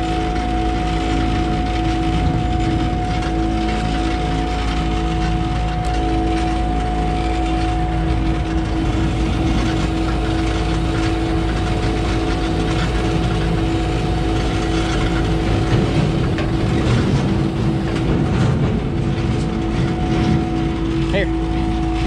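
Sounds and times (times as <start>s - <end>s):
diesel engine and hydraulics whining: 0.0s - 22.0s
machine clatter: 0.0s - 22.0s.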